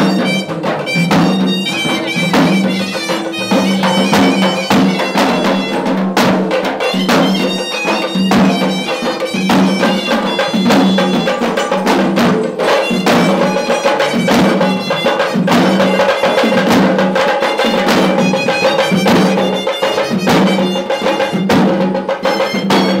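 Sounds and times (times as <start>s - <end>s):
reed pipe playing: 0.0s - 6.2s, 6.8s - 11.6s, 12.7s - 21.5s
drums beaten fast: 0.0s - 23.0s.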